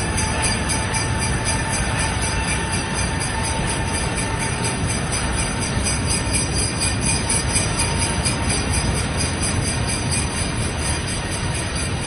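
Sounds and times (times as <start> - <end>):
jet engines roaring: 0.0 - 12.0
sleigh bells jingling: 0.0 - 12.0.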